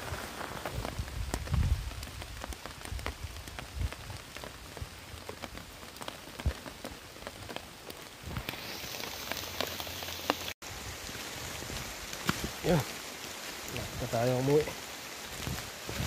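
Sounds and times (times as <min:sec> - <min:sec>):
rain falling: 0:00.0 - 0:16.0
raindrops ticking on surfaces: 0:00.0 - 0:16.0.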